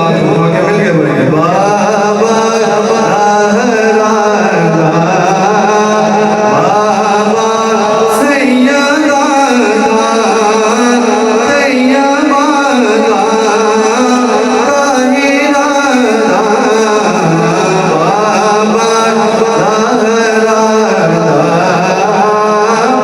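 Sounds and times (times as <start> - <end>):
man singing devotional song: 0.0 - 23.0.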